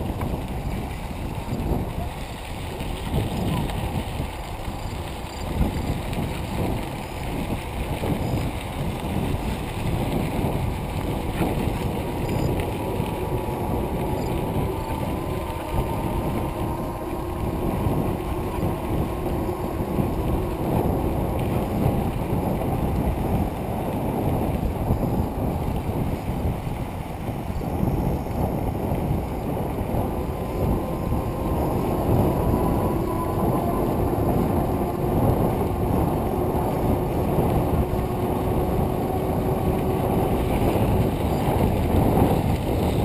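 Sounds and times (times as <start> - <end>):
bicycle tyre rumble: 0.0 - 43.0
wind rushing over microphone: 0.0 - 43.0.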